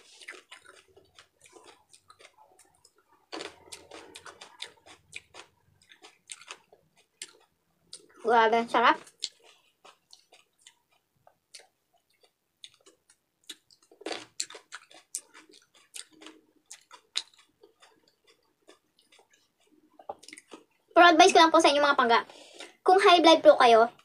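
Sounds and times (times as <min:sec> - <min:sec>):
person chewing food: 0:00.0 - 0:21.0, 0:22.3 - 0:22.9.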